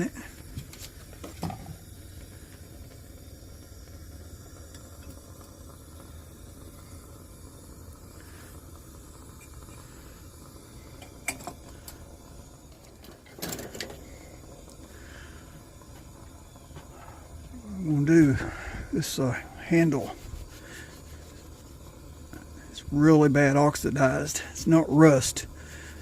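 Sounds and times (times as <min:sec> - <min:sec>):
pressure lantern hissing: 0:00.0 - 0:26.0.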